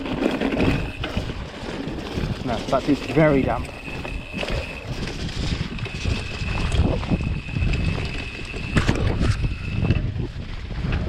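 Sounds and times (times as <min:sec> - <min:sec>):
thin high whine: 0:00.0 - 0:10.7
bike knocking and rattling: 0:00.0 - 0:11.0
wind buffeting microphone: 0:00.0 - 0:11.0.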